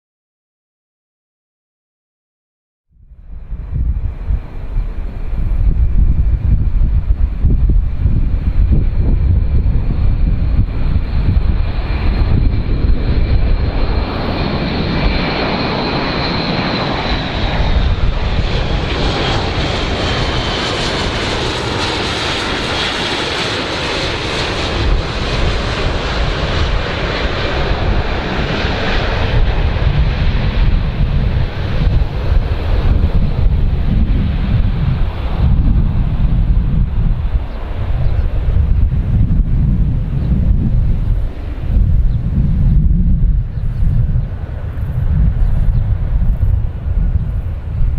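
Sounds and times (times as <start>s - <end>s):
airplane engine whine: 2.9s - 47.9s
wind rumbling on microphone: 2.9s - 47.9s.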